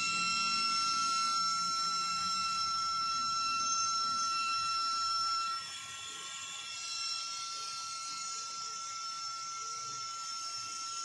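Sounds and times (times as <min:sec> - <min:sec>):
cooling fan whining: 0:00.0 - 0:11.0.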